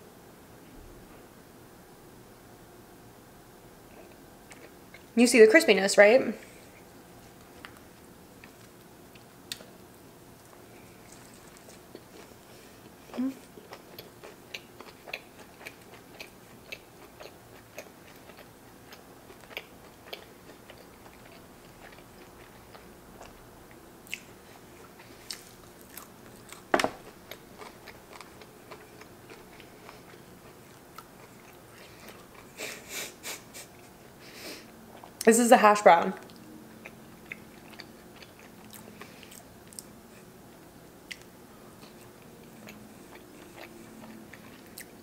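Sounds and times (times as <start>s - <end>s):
chewing with small crunches: 3.9s - 5.2s, 6.5s - 32.8s, 34.9s - 35.3s, 36.2s - 45.0s.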